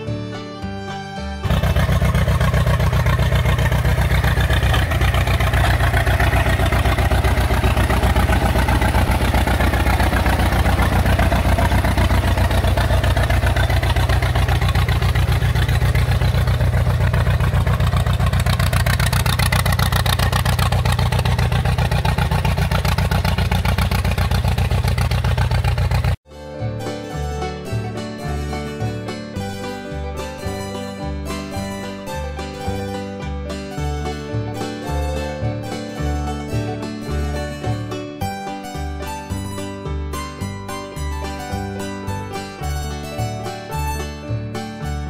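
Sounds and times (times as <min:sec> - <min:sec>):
tractor engine running: 0:00.8 - 0:45.0.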